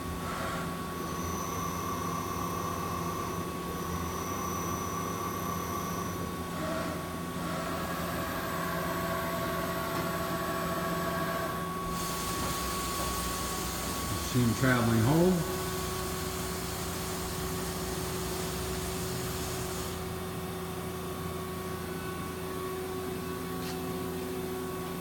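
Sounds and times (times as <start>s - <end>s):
machining center hum: 0.0s - 25.0s.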